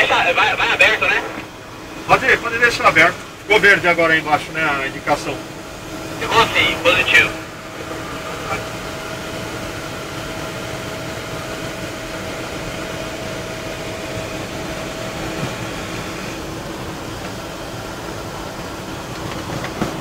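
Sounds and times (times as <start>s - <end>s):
aircraft engines droning in cockpit: 0.0s - 20.0s.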